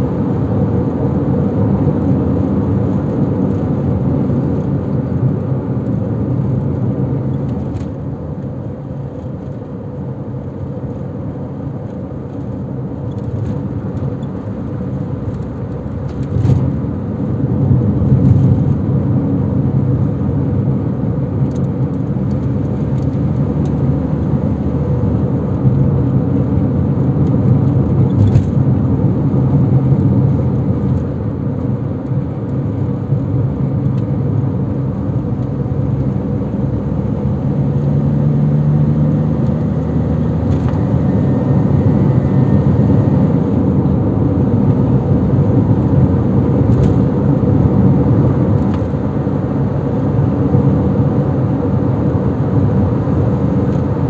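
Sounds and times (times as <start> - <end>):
car engine driving: 0.0 - 54.0
tyre road noise: 0.0 - 54.0.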